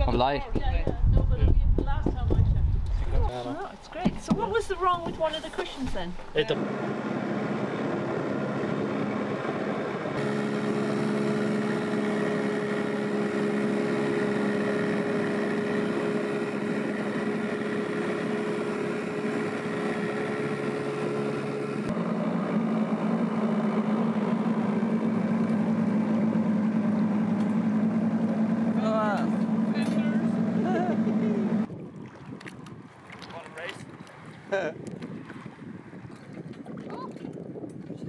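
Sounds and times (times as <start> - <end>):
outboard motor running: 6.0 - 38.0.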